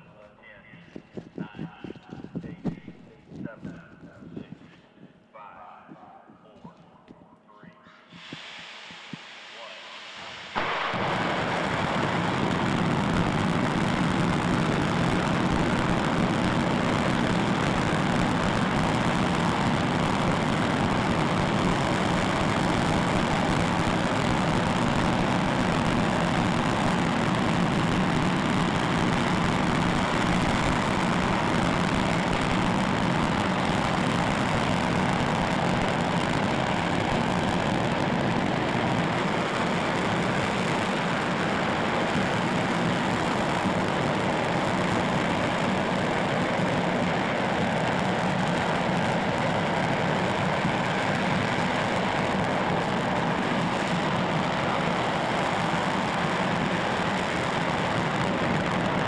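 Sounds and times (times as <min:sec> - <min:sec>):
rocket engine roaring: 0:00.0 - 0:59.0.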